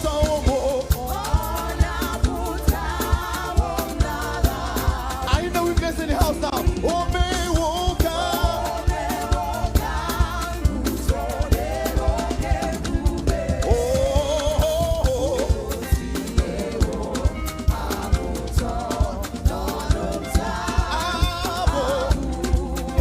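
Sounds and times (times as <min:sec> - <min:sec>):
band with drums and bass: 0:00.0 - 0:23.0
lead singer singing: 0:00.0 - 0:23.0.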